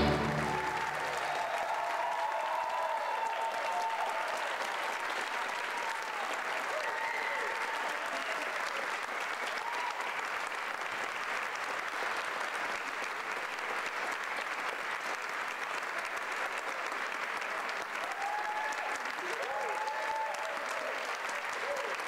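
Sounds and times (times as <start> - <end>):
crowd cheer: 0.0 - 12.2, 15.6 - 22.0
audience applauding: 0.0 - 22.0.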